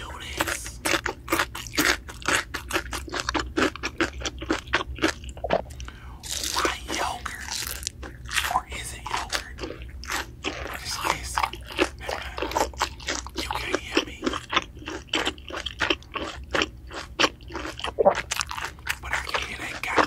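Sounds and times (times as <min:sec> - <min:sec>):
chewing crispy fried food: 0:00.0 - 0:20.0.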